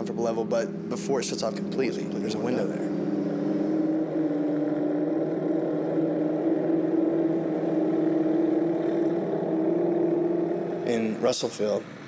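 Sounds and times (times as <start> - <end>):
low droning hum: 0.0 - 11.5.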